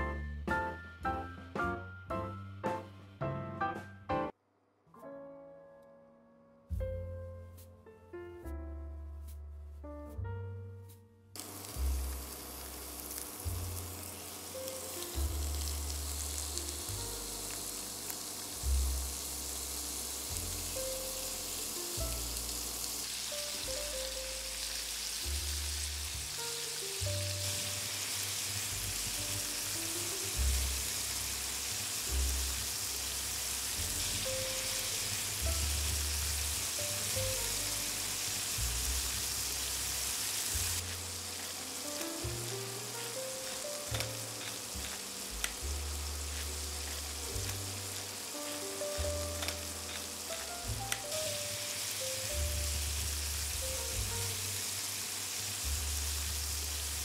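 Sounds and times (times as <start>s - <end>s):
soft background music: 0.0s - 4.4s, 5.0s - 57.0s
shrimp sizzling in oil: 11.4s - 57.0s.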